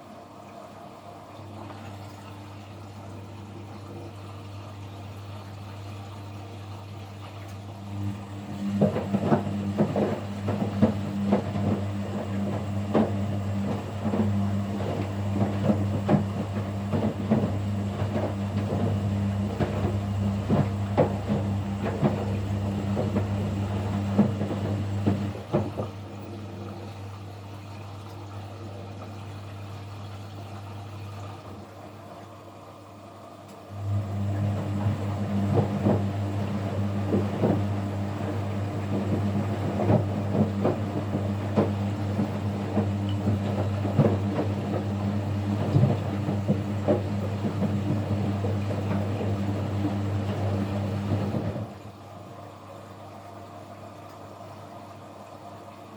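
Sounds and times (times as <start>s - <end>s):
washing machine motor humming: 0.0s - 55.9s.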